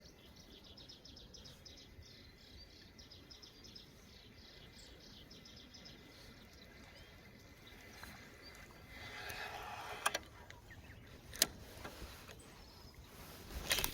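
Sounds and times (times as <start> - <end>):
faint chirping calls: 0.0 - 13.9.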